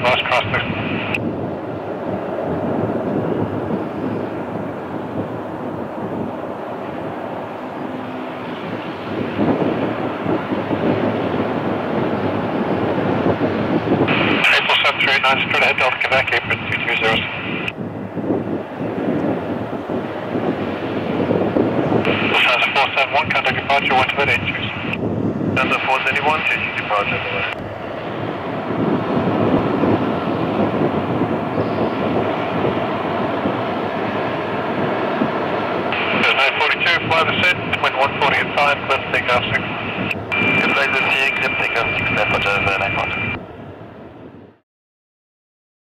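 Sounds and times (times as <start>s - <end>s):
jet airliner climbing: 0.0s - 44.5s.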